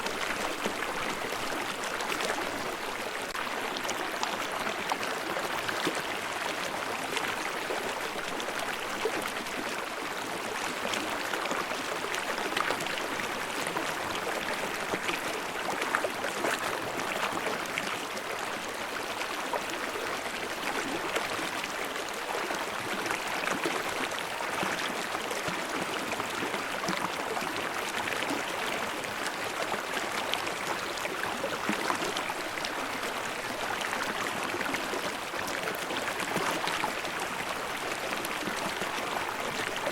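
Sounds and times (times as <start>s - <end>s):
stream water babbling over rocks: 0.0s - 39.9s.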